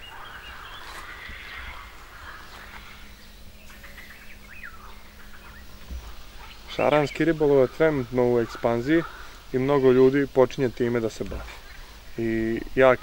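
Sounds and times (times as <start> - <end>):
birds chirping faintly: 0.0 - 13.0
faint low hum: 0.0 - 13.0
outdoor ambience: 0.0 - 13.0.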